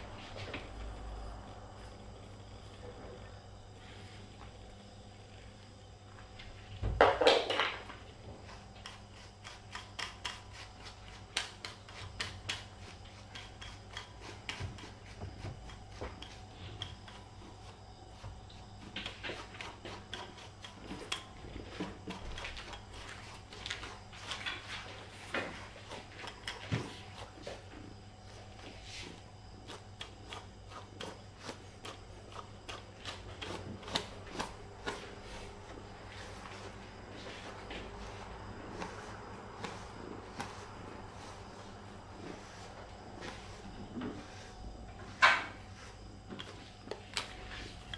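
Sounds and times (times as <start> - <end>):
brush scraping through cat fur: 7.9 - 47.9.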